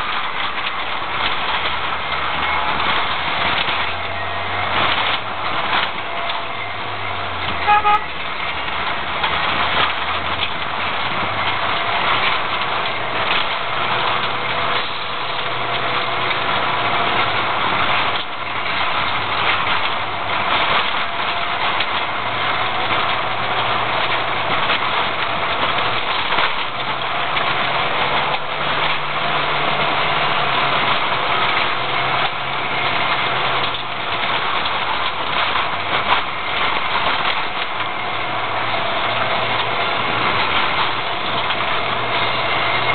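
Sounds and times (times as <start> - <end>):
tyres on dirt road: 0.0 - 42.9.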